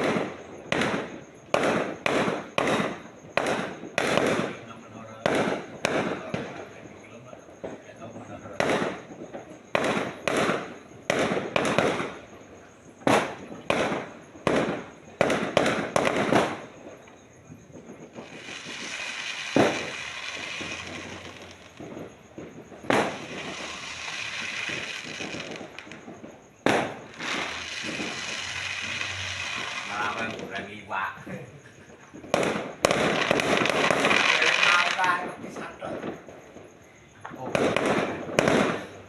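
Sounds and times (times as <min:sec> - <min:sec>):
fireworks bangs: 0:00.0 - 0:39.0
fireworks crackling: 0:00.0 - 0:39.0.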